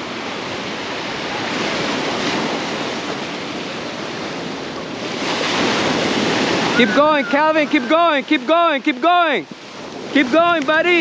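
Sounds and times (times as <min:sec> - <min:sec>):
ocean surf breaking on sand: 0:00.0 - 0:11.0.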